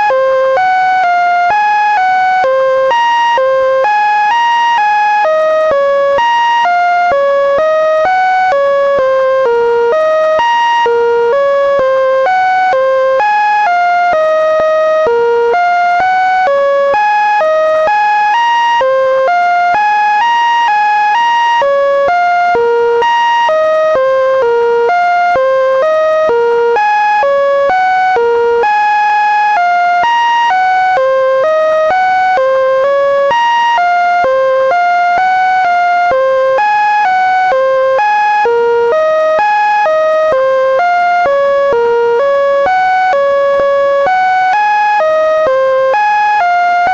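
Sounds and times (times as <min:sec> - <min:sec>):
electronic beeping melody: 0:00.0 - 0:46.9.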